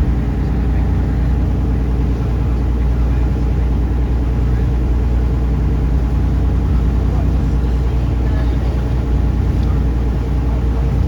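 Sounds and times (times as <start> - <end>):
boat engine rumbling: 0.0 - 11.0
faint voices: 0.0 - 11.0.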